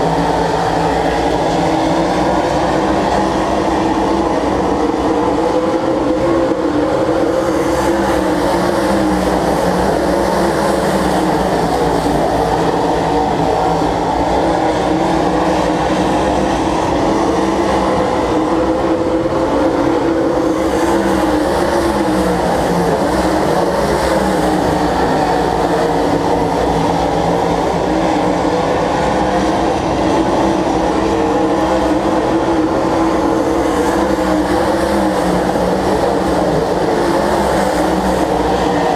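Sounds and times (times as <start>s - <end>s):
stock car engines droning: 0.0s - 38.9s.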